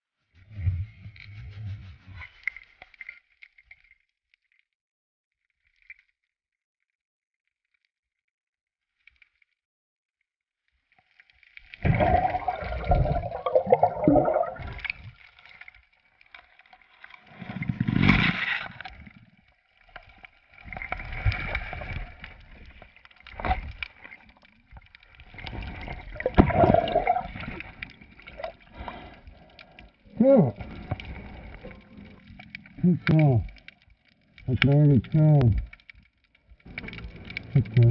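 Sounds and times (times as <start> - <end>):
water sloshing and gurgling: 0.2 - 4.7, 10.7 - 37.9.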